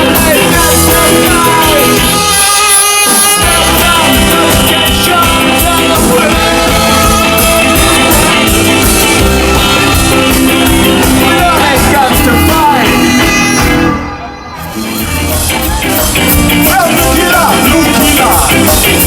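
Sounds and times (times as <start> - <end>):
ska band playing live: 0.0 - 19.0.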